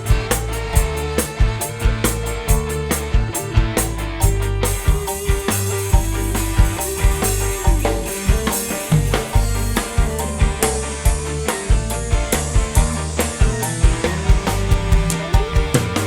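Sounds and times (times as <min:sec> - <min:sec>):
driving drum beat: 0:00.0 - 0:16.0
heavy bass: 0:00.0 - 0:16.0
live band through sound system: 0:00.0 - 0:16.0.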